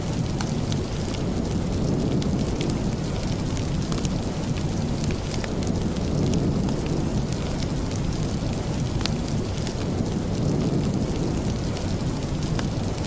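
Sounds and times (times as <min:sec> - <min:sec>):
steady rain rumble: 0:00.0 - 0:13.0
wood fire crackling: 0:00.0 - 0:13.0.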